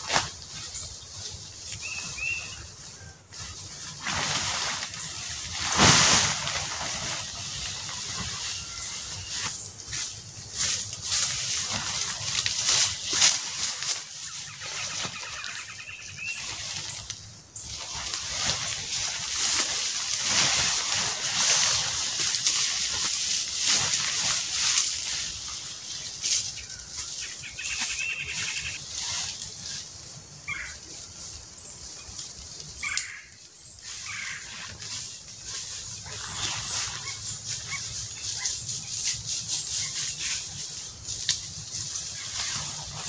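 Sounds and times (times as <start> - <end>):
nylon tent fly rustling: 0.0 - 43.0.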